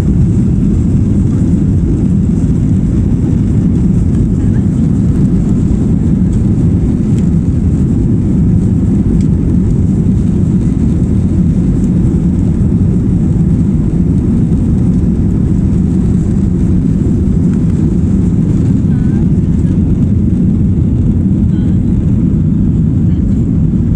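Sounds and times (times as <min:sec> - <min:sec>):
airliner cabin jet rumble: 0:00.0 - 0:23.9.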